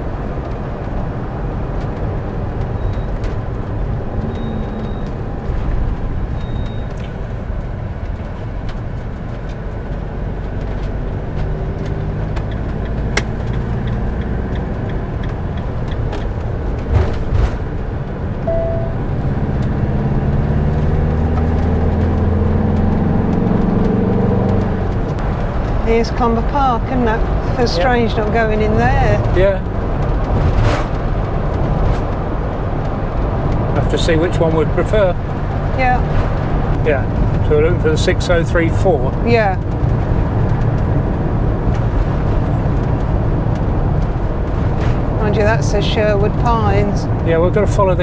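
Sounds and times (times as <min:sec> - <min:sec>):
engine and tyres rumbling on road: 0:00.0 - 0:48.0.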